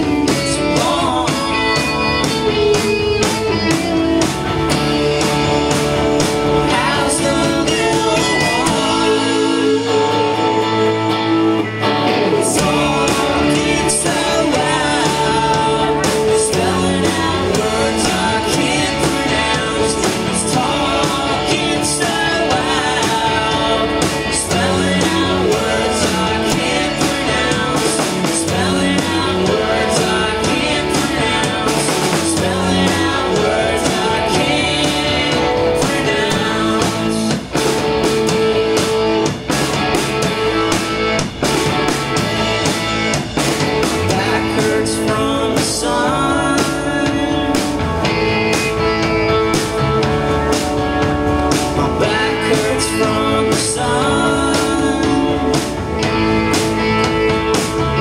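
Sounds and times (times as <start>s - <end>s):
person singing: 0.0s - 39.0s, 43.9s - 49.7s, 51.5s - 58.0s
bass guitar: 0.0s - 58.0s
drum kit: 0.0s - 58.0s
electric guitars: 0.0s - 58.0s.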